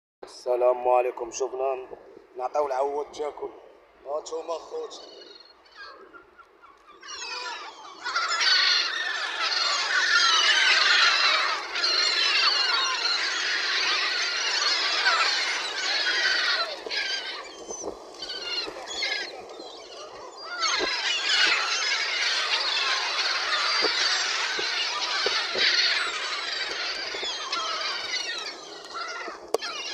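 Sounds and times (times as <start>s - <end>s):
flock of birds cheeping: 0.4s - 29.9s.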